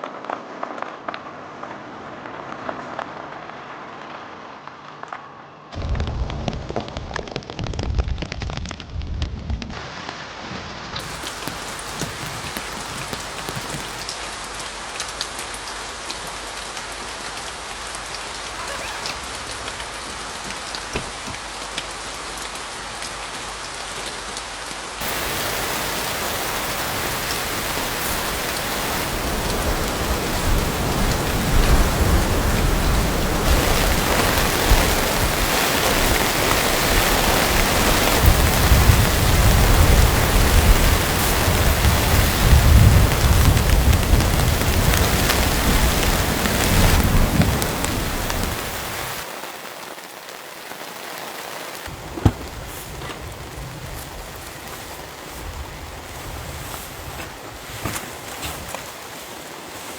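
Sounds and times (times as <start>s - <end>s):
heavy rain falling: 11.0s - 59.9s.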